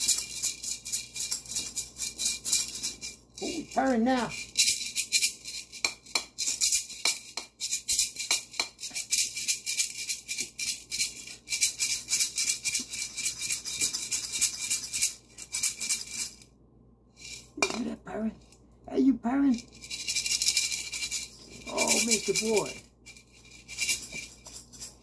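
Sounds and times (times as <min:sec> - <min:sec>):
maracas rattling: 0:00.0 - 0:16.5, 0:17.1 - 0:17.8, 0:19.5 - 0:25.0.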